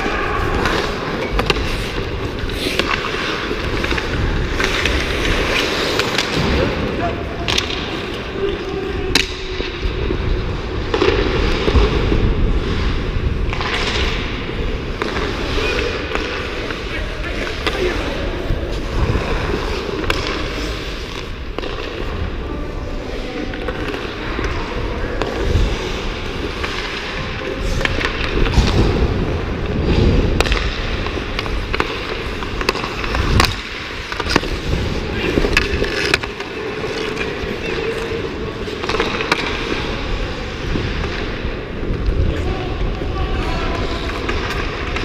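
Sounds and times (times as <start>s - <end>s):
hockey sticks and puck clacking: 0.0s - 45.0s
skate blades scraping ice: 0.0s - 45.0s.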